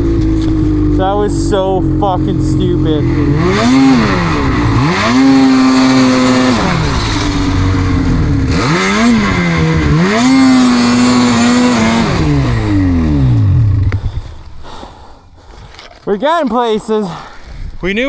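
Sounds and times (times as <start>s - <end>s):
snowmobile engine revving: 0.0s - 14.5s.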